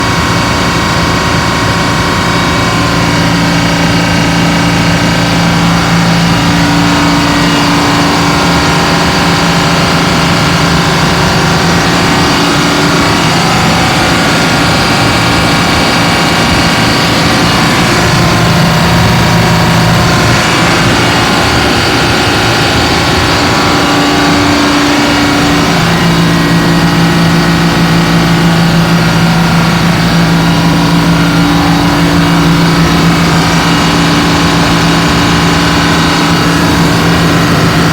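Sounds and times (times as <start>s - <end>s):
diesel generator engine droning: 0.0s - 37.9s.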